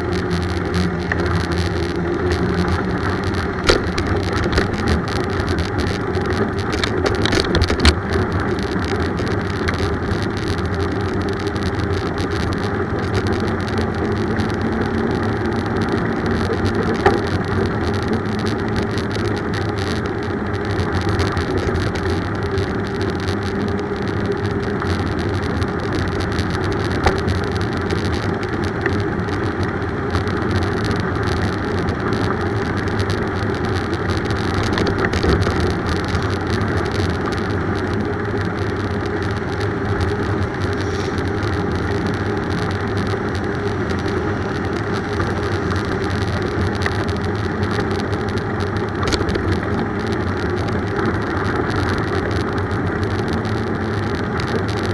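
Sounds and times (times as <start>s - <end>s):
bicycle tyre rumble: 0.0s - 54.9s
wind: 0.0s - 54.9s.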